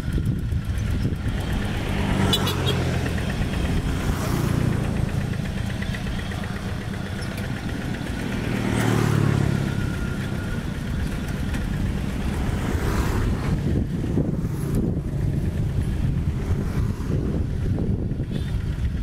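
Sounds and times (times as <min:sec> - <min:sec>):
diesel engines running: 0:00.0 - 0:19.0.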